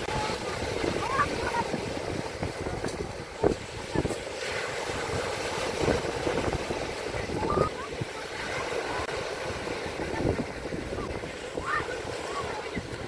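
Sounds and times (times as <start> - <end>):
steady rushing noise: 0.0 - 13.0
wind buffeting microphone: 0.0 - 13.0.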